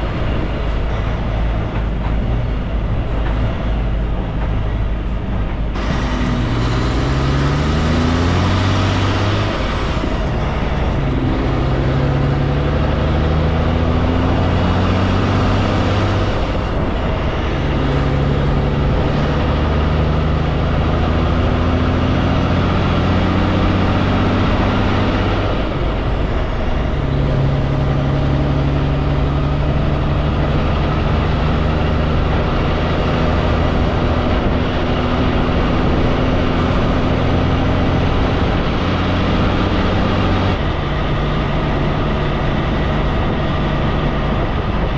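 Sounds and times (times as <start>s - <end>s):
truck diesel engine shifting gears: 0.0s - 44.9s.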